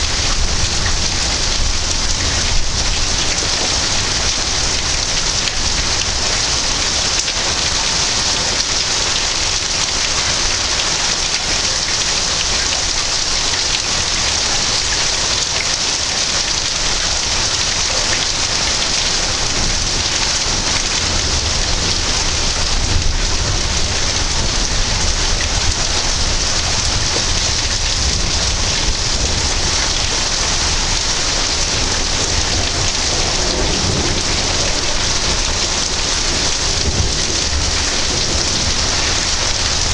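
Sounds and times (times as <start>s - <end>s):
thunder rumbling: 0.0s - 10.7s, 16.0s - 39.9s
heavy rain falling: 0.0s - 39.9s.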